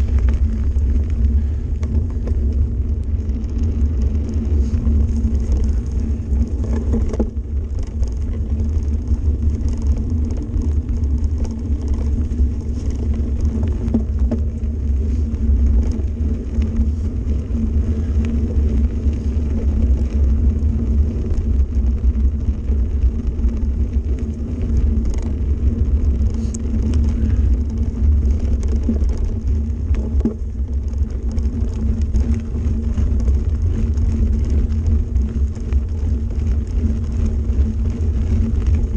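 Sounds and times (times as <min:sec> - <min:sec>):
bike tyres rumbling on gravel: 0:00.0 - 0:38.9
small clicks and rattles: 0:00.0 - 0:38.9.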